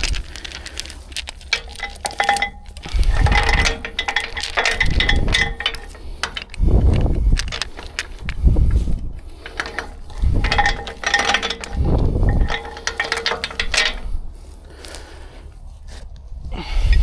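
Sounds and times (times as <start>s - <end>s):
chain links rattling: 0.0s - 14.5s.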